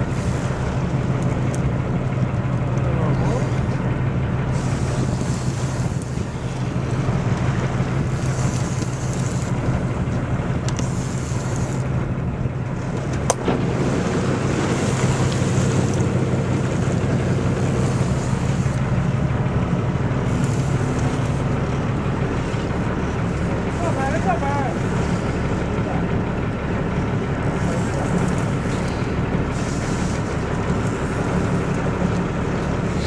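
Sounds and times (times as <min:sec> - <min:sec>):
boat engine running: 0:00.0 - 0:33.0
wind and sea noise: 0:00.0 - 0:33.0.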